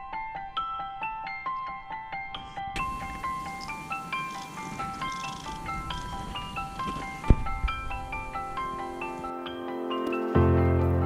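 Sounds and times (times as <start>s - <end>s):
bright background melody: 0.0s - 11.0s.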